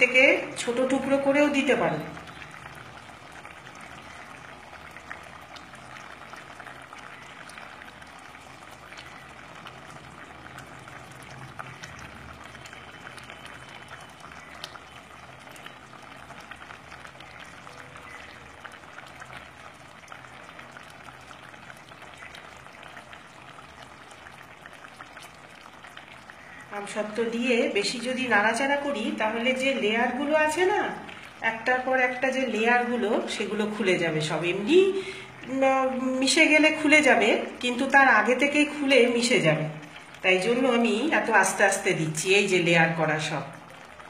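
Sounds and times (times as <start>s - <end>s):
chutney bubbling and popping: 0.0s - 44.0s.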